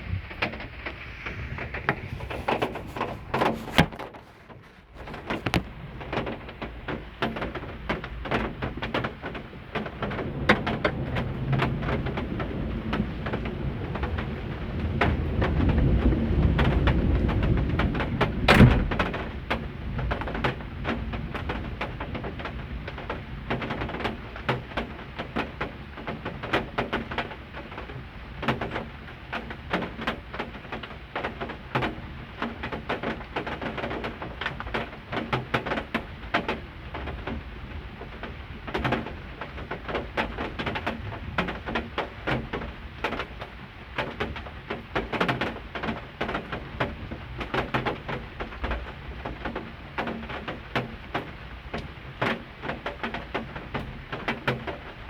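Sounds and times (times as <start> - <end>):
thunder rumbling and cracking: 0.0 - 55.0.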